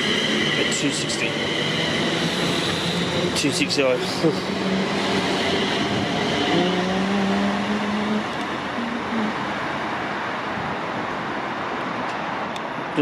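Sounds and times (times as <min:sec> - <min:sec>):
electric train rolling: 0:00.0 - 0:12.2.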